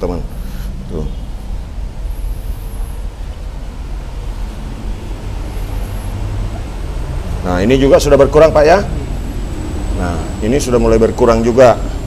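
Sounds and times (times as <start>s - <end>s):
faint hum: 0.0s - 12.0s
low background rumble: 0.0s - 12.0s.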